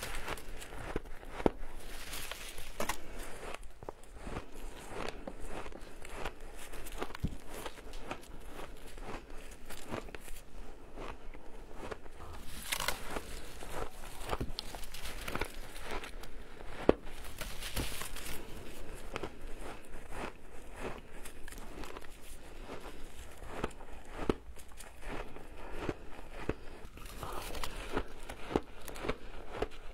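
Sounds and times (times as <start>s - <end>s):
shaved ice crunching when chewed: 0.0s - 29.9s.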